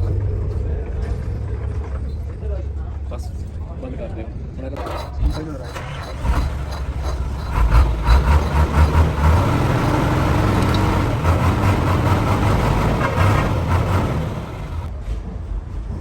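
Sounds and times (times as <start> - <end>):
truck diesel engine rumbling: 0.0 - 3.8, 4.8 - 14.9.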